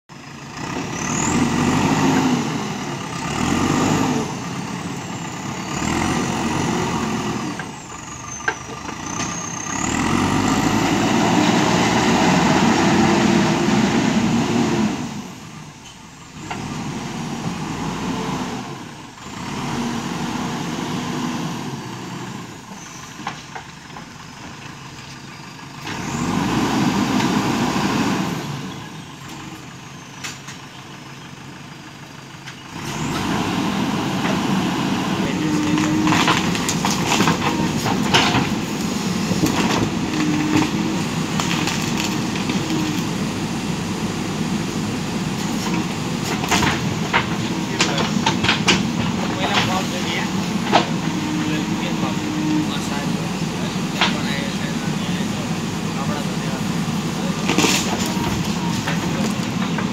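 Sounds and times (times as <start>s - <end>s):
diesel engine revving: 0.1s - 59.9s.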